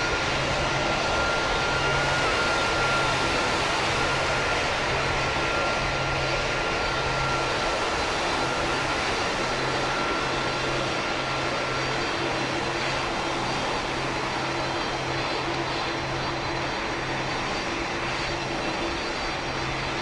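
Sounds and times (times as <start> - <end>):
airplane engine whine: 0.0 - 20.0.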